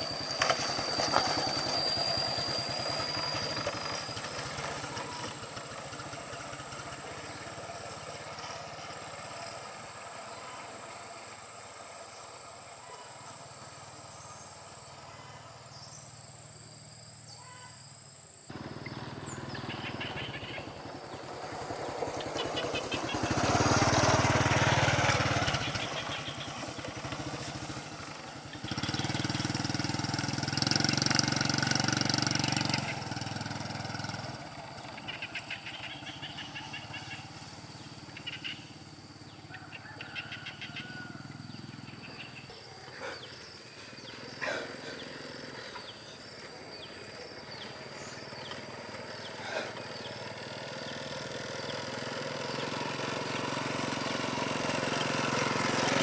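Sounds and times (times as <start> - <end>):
small engine running: 0.0 - 17.3, 18.5 - 56.0.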